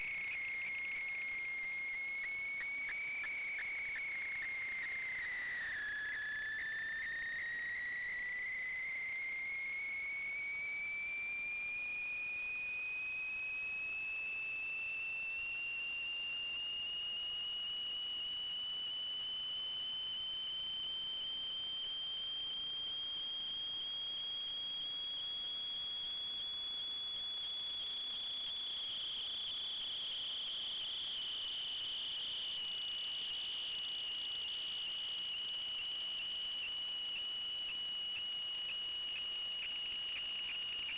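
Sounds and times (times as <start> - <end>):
continuous high-pitched whine: 0.0 - 40.9.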